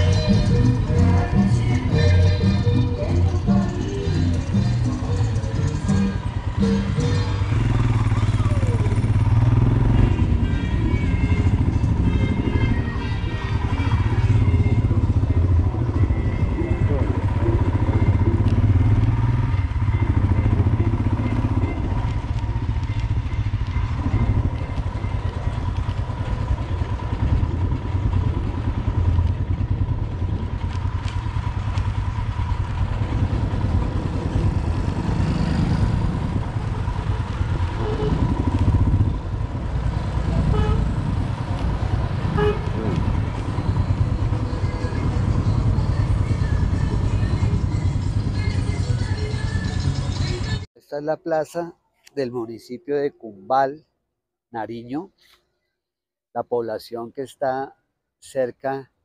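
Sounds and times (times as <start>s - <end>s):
motorcycle engine rumbling: 0.0s - 50.7s.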